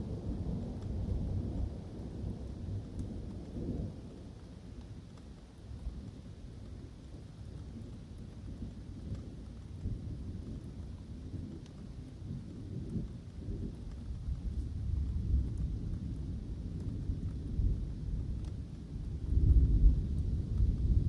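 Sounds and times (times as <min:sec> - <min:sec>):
light rain: 0:00.0 - 0:21.0.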